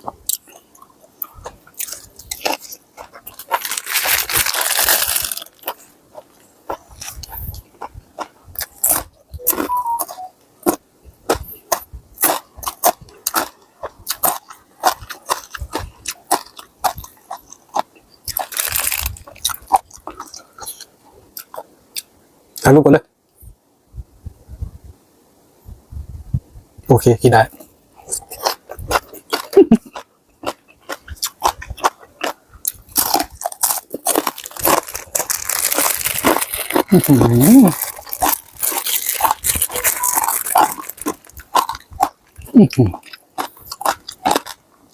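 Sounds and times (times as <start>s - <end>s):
person chewing crunchy food: 0.0s - 22.2s, 27.5s - 44.9s.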